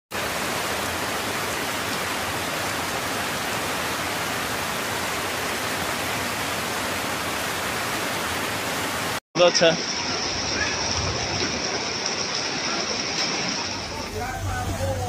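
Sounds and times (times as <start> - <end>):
heavy rain: 0.1 - 15.0
rushing floodwater: 0.1 - 15.0.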